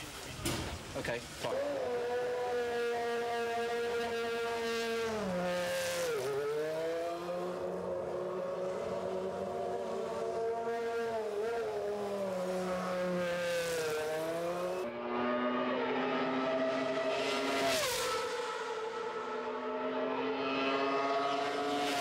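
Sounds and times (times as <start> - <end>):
racing car engine at high revs: 1.4 - 22.0.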